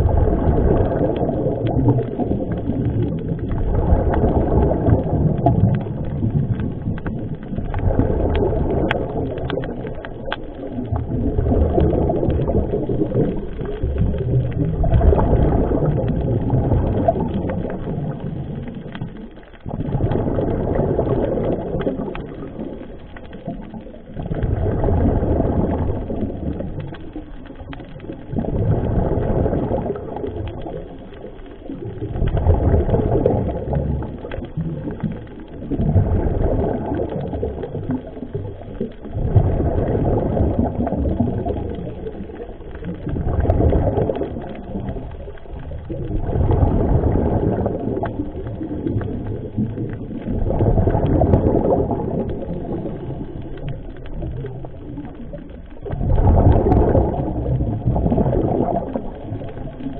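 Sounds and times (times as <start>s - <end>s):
underwater bubbling: 0.0s - 59.9s.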